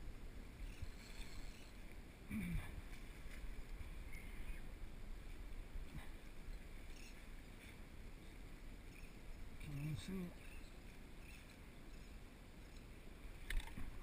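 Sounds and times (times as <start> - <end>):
water noise around a boat: 0.0 - 14.0
wind around a boat: 0.0 - 14.0.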